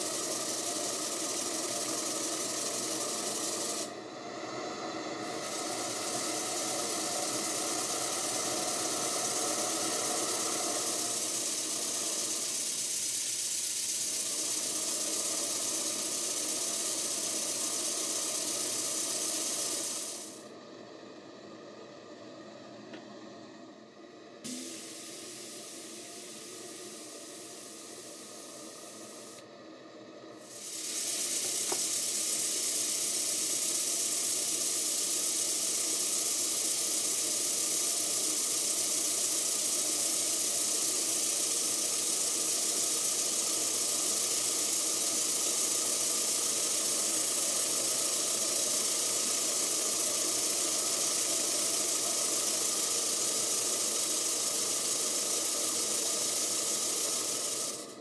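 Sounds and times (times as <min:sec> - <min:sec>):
steam engine exhaust hissing: 0:00.0 - 0:20.6, 0:24.4 - 0:29.6, 0:30.3 - 0:58.0.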